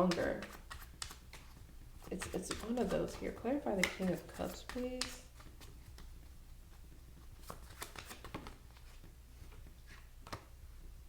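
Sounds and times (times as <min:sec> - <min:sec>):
cards shuffling: 0:00.0 - 0:10.5.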